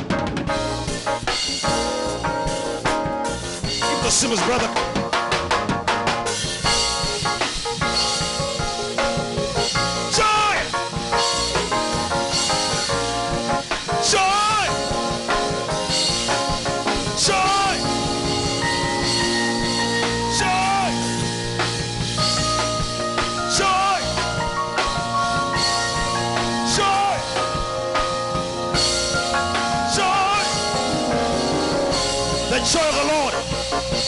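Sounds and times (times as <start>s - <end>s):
drum kit: 0.0s - 34.0s
worship band music: 0.0s - 34.0s.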